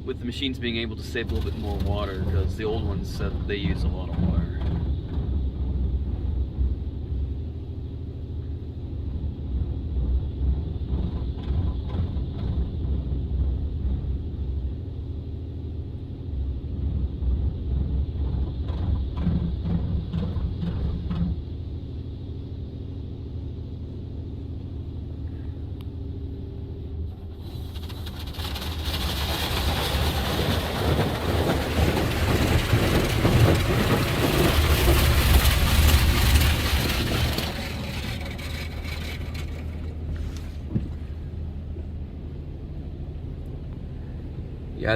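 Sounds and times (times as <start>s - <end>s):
low steady rumble: 0.0s - 44.9s.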